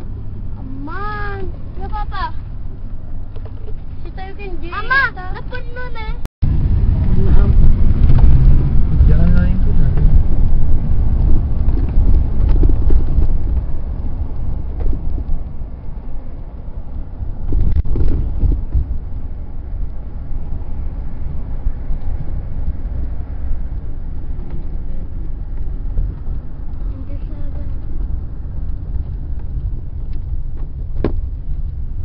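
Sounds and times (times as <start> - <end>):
road and engine rumble: 0.0 - 32.0
wind buffeting microphone: 0.0 - 32.0.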